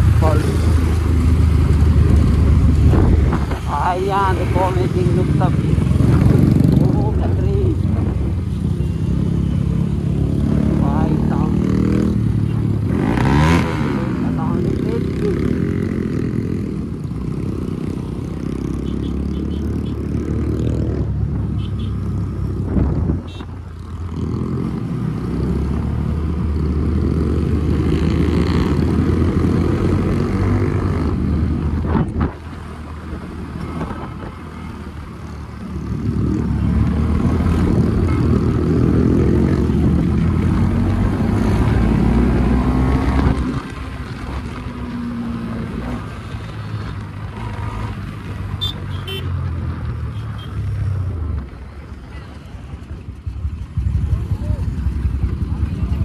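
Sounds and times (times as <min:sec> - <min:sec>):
motorcycle engine revving: 0:00.0 - 0:32.3, 0:35.3 - 0:50.9.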